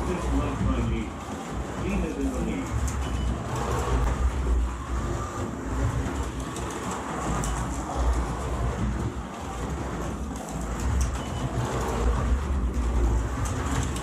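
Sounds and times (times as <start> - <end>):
slot cars rumbling on track: 0.0 - 14.0.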